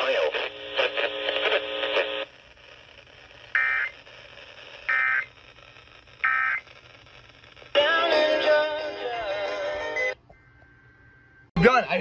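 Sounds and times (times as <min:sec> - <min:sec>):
faint radio hiss: 0:00.0 - 0:10.1.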